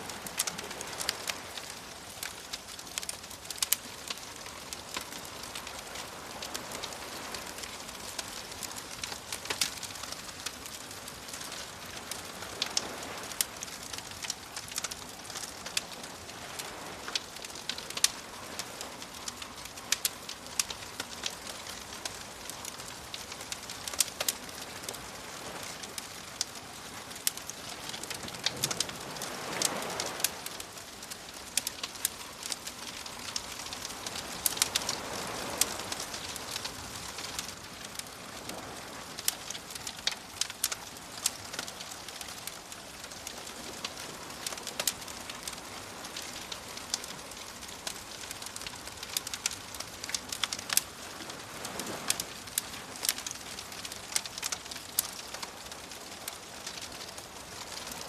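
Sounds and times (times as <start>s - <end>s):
ocean waves washing in: 0.0s - 58.0s
wood fire crackling and popping: 0.0s - 58.0s.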